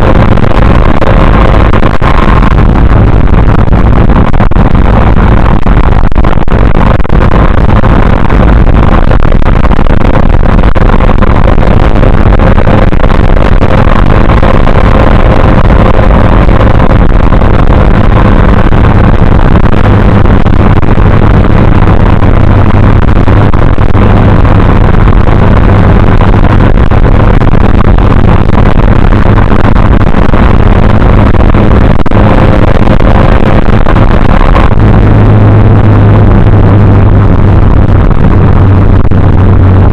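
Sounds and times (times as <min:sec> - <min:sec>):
distorted car engine running: 0:00.0 - 0:39.9.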